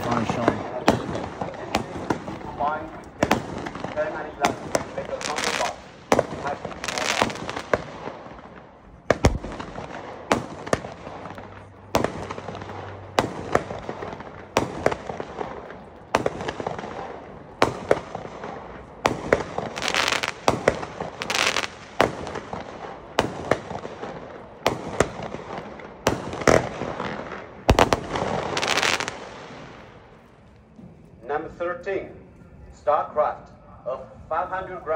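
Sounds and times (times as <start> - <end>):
firework cake bangs: 0.0 - 29.8.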